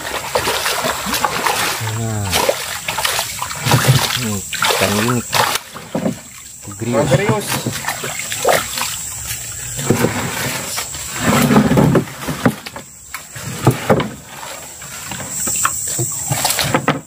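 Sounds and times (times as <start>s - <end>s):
fish thrashing and splashing water: 0.0s - 17.0s.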